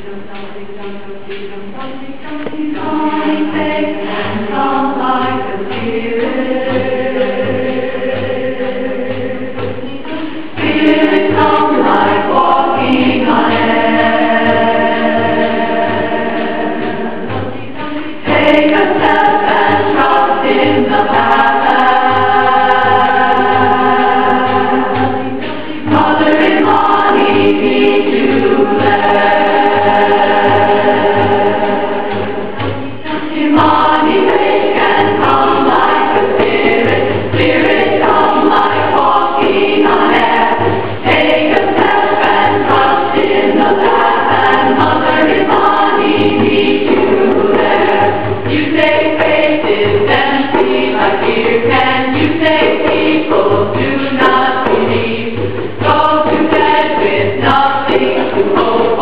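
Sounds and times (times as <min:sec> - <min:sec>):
women's chorus singing in harmony: 0:00.0 - 0:59.0.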